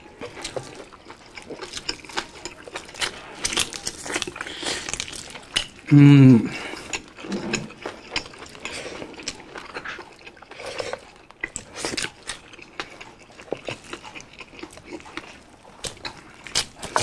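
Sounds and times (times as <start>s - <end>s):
chewing and lip smacking: 0.0s - 5.9s, 6.5s - 17.0s.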